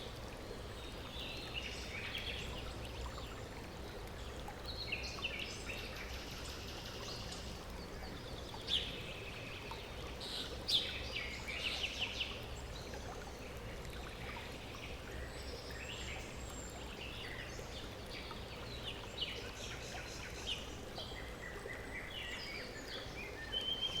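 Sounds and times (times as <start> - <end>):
running water flowing: 0.0 - 24.0.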